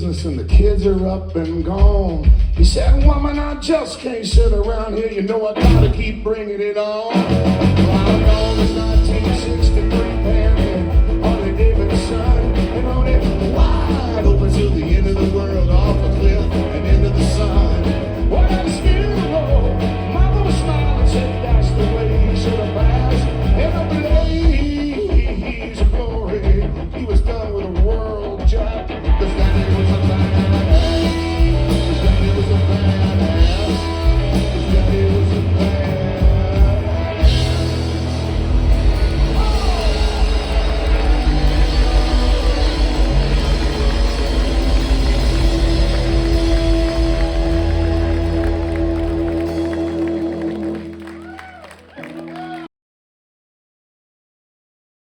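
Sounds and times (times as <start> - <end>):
drums: 0.0 - 52.6
bass guitar: 5.5 - 6.2, 7.1 - 52.7
electric guitar: 5.5 - 6.2, 7.1 - 52.7.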